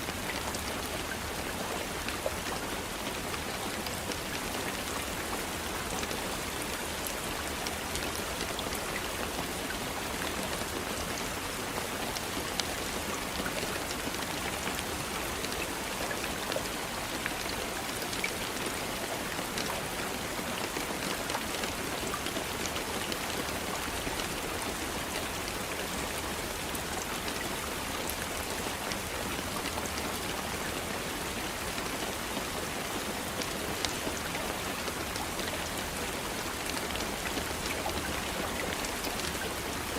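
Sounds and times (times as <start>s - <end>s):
raindrops pattering on a surface: 0.0s - 39.9s
steady rain hiss: 0.0s - 39.9s.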